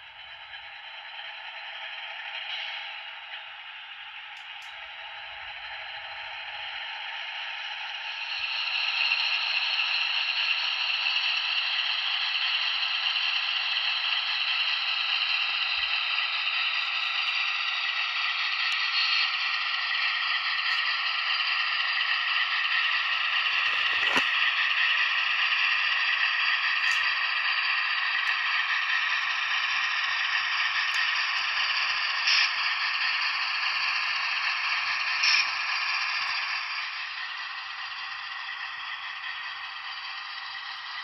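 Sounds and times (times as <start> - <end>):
tinny model train engine sound: 0.0 - 41.0.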